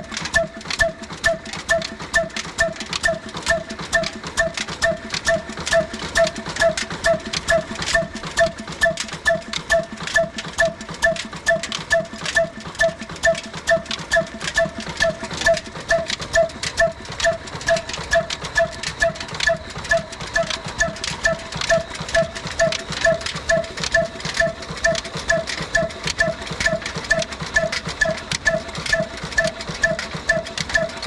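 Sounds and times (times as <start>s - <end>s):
diesel engine knocking rhythmically: 0.0s - 31.0s
flour mill running: 0.0s - 31.0s.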